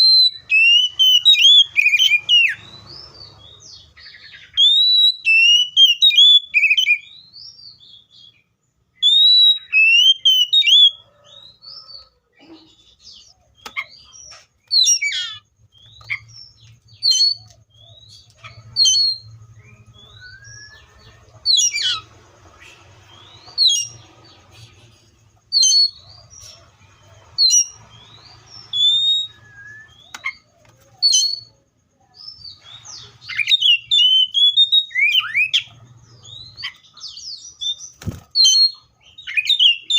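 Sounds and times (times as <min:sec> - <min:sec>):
bird whistling song: 0:00.0 - 0:08.4, 0:09.0 - 0:12.1, 0:12.8 - 0:24.8, 0:25.5 - 0:26.6, 0:27.3 - 0:31.6, 0:32.4 - 0:39.9.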